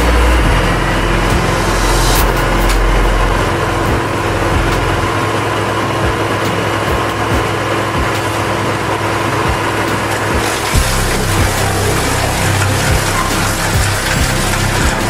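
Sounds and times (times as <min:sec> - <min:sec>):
hydraulic saw cutting wood: 0:00.0 - 0:15.0
machine engine running: 0:00.0 - 0:15.0.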